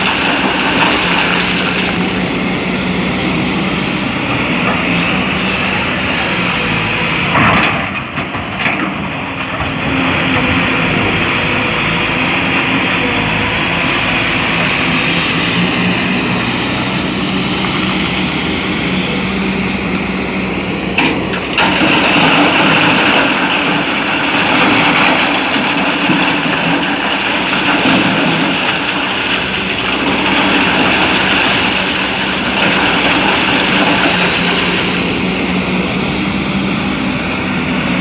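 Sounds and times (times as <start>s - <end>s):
excavator running under load: 0.0s - 38.0s.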